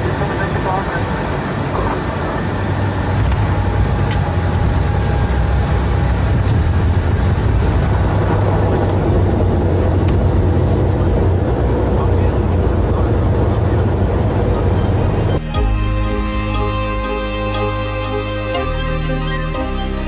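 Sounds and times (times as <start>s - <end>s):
propeller plane engines droning: 0.0s - 20.0s
deep low hum: 1.6s - 20.0s.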